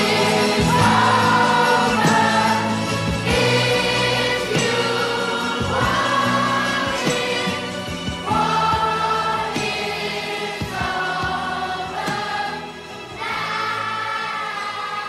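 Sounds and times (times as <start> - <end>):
choir singing held notes: 0.0 - 15.0.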